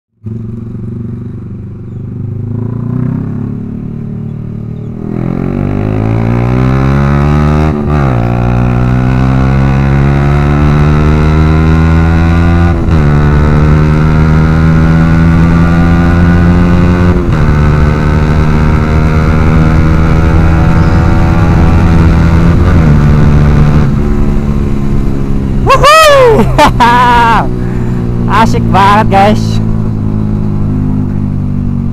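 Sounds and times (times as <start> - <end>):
motorcycle engine revving: 0.2 - 31.9.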